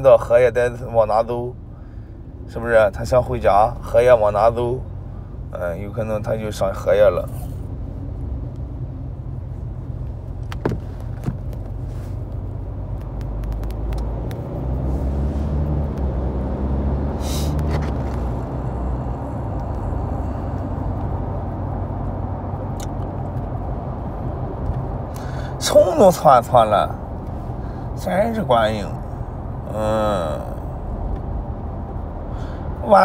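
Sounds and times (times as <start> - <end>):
car cabin rumble: 0.0 - 33.0.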